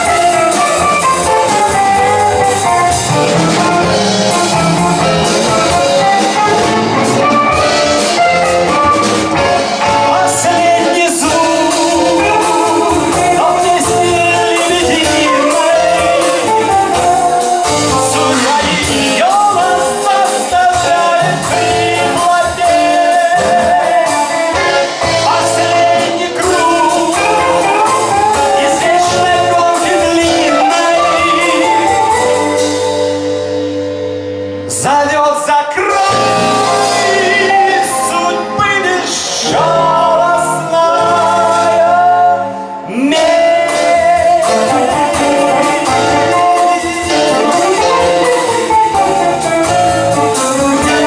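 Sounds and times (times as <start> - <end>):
bending lead melody: 0.0 - 35.2, 35.9 - 51.0
blues band playing live: 0.0 - 51.0.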